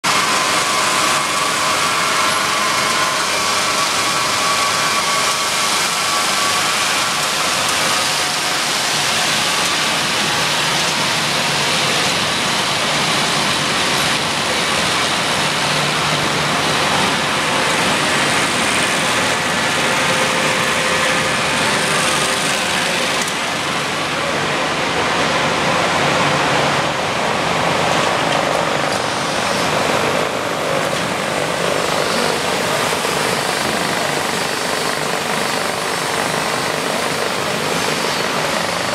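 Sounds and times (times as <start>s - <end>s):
packing machine line running: 0.0s - 38.9s.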